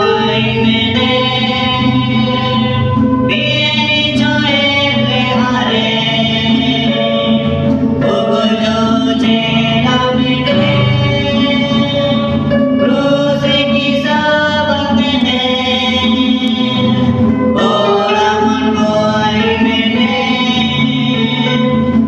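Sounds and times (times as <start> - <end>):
men singing a hymn: 0.0 - 22.0.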